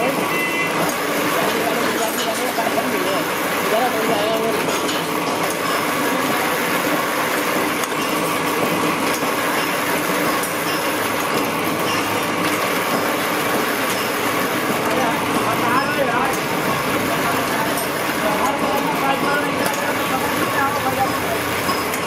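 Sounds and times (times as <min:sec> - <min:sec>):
nut tapping machine droning: 0:00.0 - 0:22.0.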